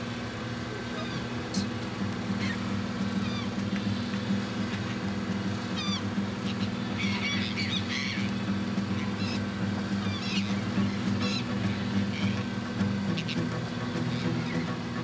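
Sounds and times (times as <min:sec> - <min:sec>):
boat engine hum: 0:00.0 - 0:15.0
seabirds crying: 0:00.6 - 0:15.0.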